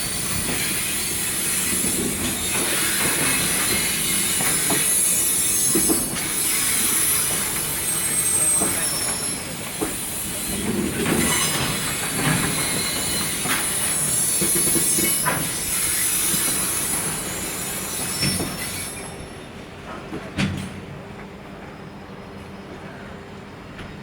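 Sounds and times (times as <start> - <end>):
train wheels squealing: 0.0 - 20.0, 21.5 - 24.0
freight train rolling slowly: 0.0 - 24.0.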